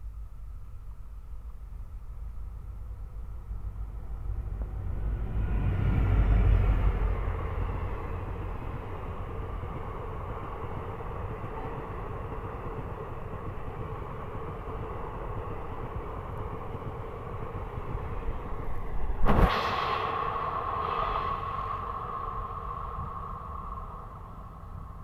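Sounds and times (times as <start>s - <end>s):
diesel locomotive passing: 2.2s - 25.0s
train wheels rolling on rails: 3.5s - 25.0s.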